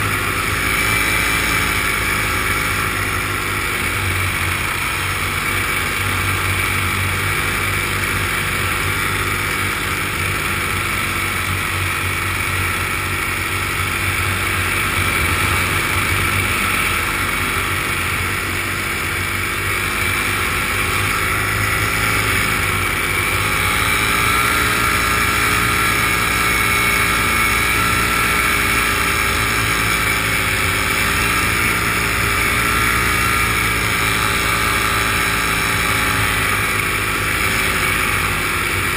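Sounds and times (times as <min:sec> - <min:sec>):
aircraft engine and propeller: 0:00.0 - 0:38.9.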